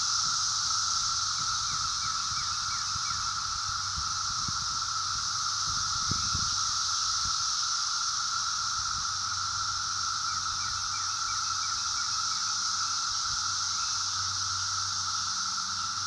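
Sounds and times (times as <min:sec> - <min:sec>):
cicadas buzzing chorus: 0:00.0 - 0:16.0.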